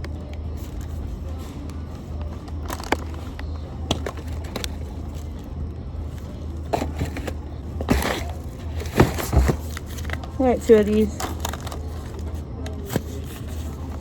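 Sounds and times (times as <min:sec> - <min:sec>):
packaging clicks and rustles: 0:00.0 - 0:14.0
steady low hum: 0:00.0 - 0:14.0.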